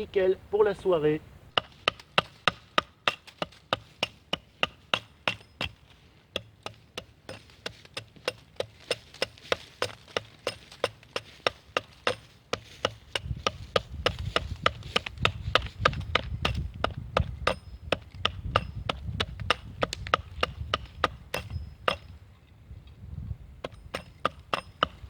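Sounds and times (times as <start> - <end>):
hatchet chopping wood: 1.5 - 22.2, 23.6 - 25.0.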